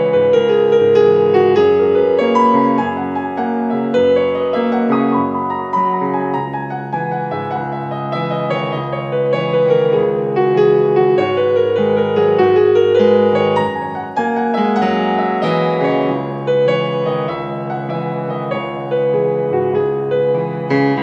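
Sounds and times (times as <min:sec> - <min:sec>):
piano-led instrumental music: 0:00.0 - 0:21.0.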